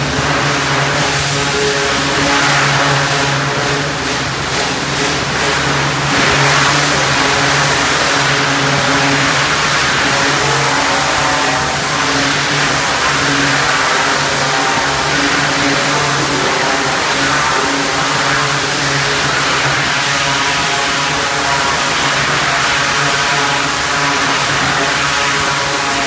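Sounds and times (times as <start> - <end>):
high-pressure water spray hissing: 0.0 - 26.0
pressure washer machine hum: 0.0 - 26.0.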